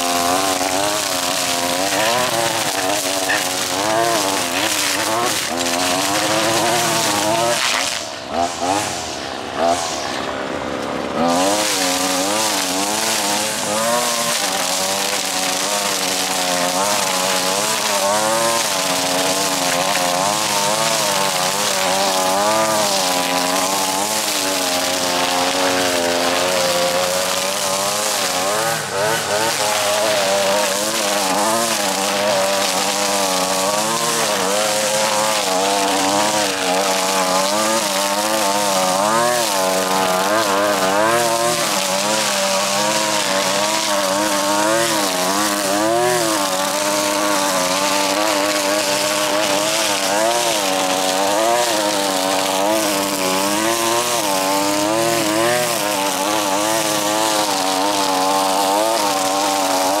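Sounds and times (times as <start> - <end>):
string trimmer engine: 0.0 - 60.0.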